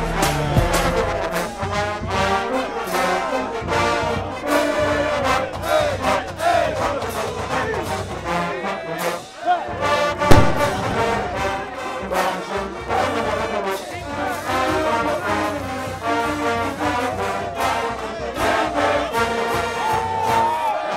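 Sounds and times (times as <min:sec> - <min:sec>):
brass band playing lively tune: 0:00.0 - 0:20.9.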